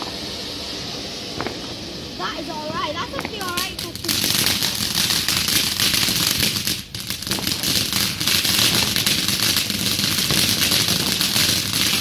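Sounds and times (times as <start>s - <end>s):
firework crackling: 0.0s - 12.0s.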